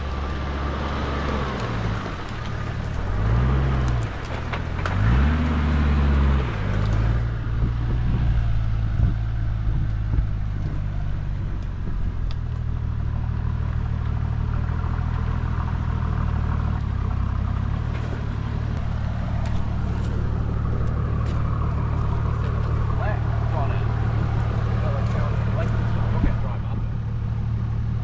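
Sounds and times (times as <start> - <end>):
engine running at low revs: 0.0 - 28.0.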